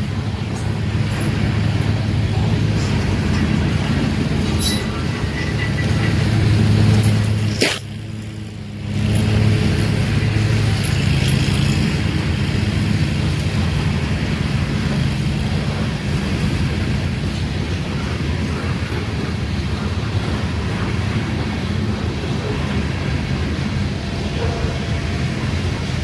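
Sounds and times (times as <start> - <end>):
diesel engine drone: 0.0 - 26.0
train wheels rolling rumble: 0.0 - 26.0.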